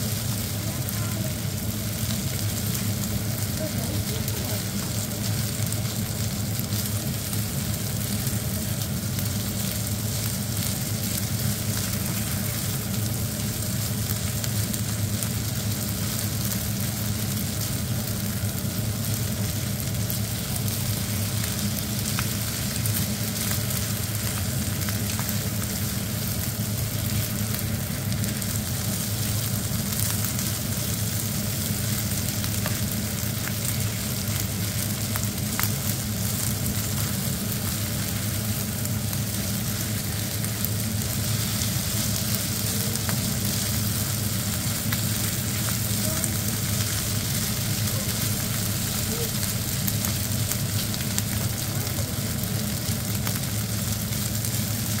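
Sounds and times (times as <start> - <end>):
rice sizzling in a frying pan: 0.0 - 55.0
steady low hum: 0.0 - 55.0.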